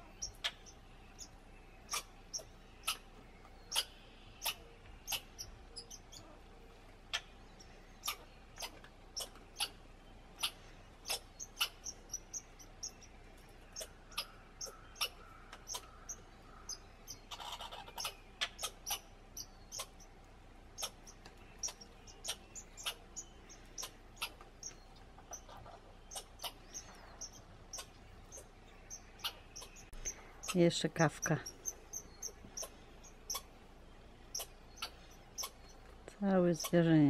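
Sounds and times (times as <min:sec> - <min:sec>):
squirrel chuck calls: 0:00.0 - 0:37.0.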